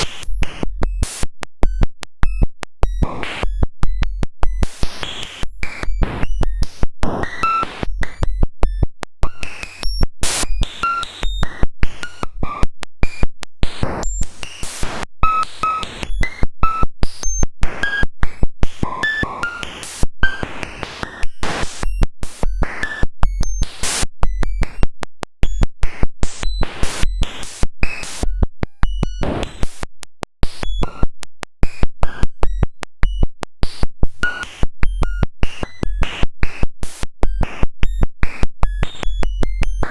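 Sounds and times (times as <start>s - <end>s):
glitchy electronic clicks and blips: 0.0s - 39.9s.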